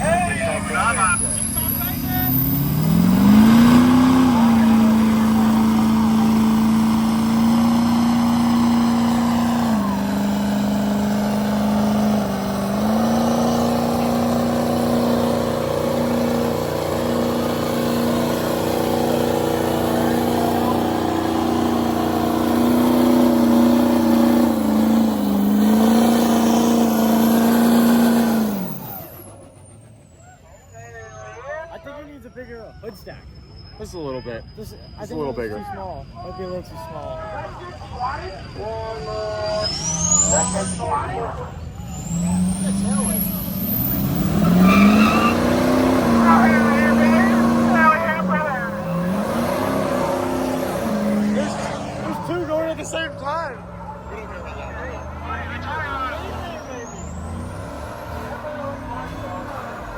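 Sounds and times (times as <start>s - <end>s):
truck engine at high revs: 0.0s - 31.2s, 33.0s - 59.9s.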